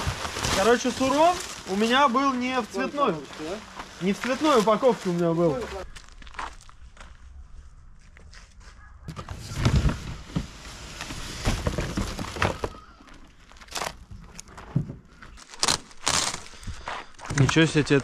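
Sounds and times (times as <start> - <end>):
cardboard packaging rustling: 0.0 - 6.7, 9.2 - 18.0.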